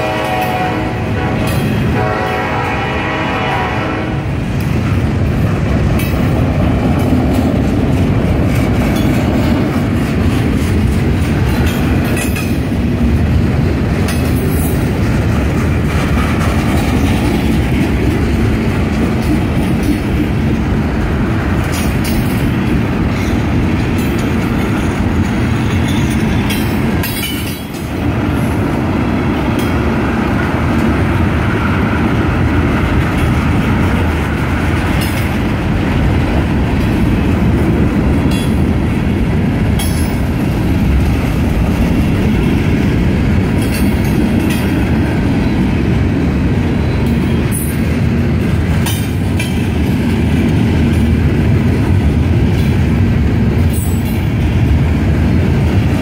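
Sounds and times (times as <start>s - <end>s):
train wheels rumbling on rail: 0.0s - 56.0s
wheels clacking over rail joints: 4.4s - 46.0s, 46.6s - 56.0s.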